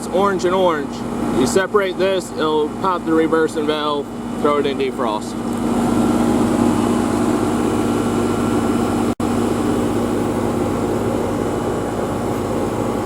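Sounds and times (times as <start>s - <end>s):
heat pump unit humming: 0.0s - 13.0s.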